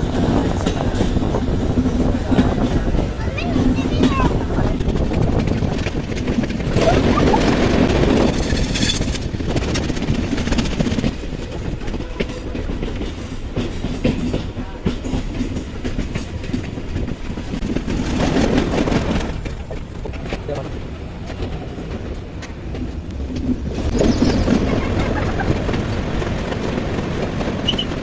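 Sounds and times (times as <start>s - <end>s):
train rumbling on track: 0.0s - 28.0s
wheels clicking over rails: 0.1s - 28.0s.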